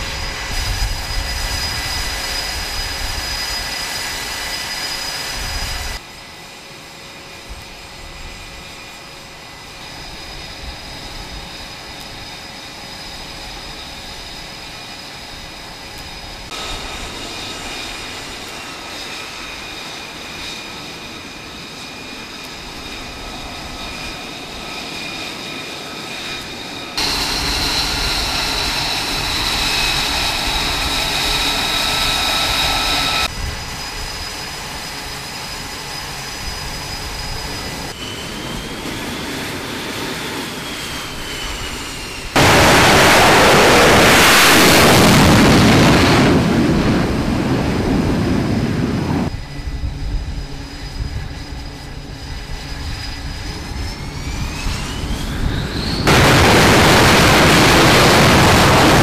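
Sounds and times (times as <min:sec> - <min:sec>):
jet engine roar: 0:00.0 - 0:59.0
turbine whine: 0:00.0 - 0:59.0.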